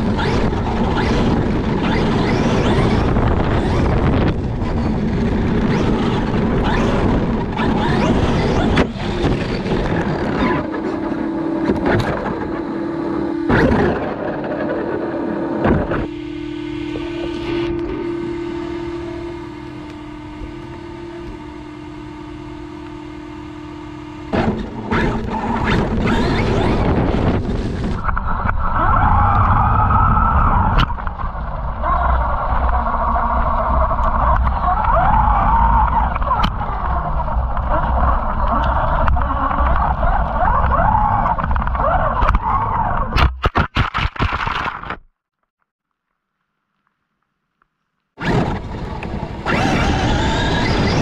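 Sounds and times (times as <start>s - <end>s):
wind and tyre rumble: 0.0s - 21.6s, 24.3s - 43.2s, 48.2s - 51.0s
high motor whine: 0.0s - 43.1s, 48.2s - 51.0s.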